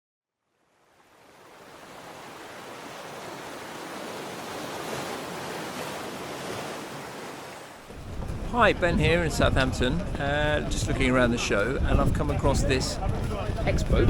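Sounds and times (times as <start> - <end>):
rushing wind and water: 0.6 - 14.0.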